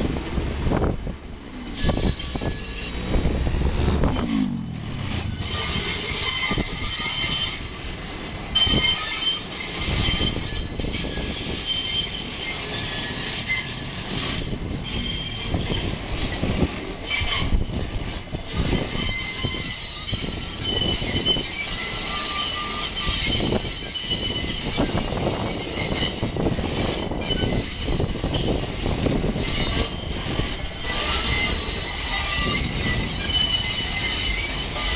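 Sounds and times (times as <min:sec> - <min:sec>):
train rumble: 0:00.0 - 0:34.9
train wheels squealing on rails: 0:00.7 - 0:34.9.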